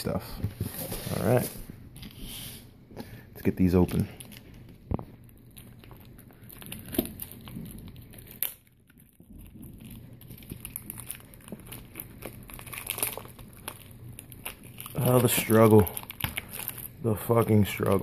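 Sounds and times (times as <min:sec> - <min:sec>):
packaging crinkling: 0:03.4 - 0:18.0.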